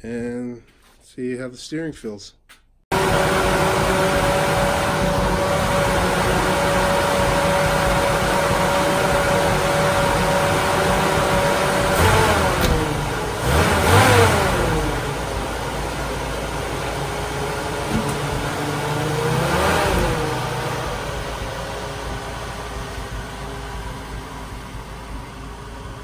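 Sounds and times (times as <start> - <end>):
car engine revving: 2.9 - 26.0.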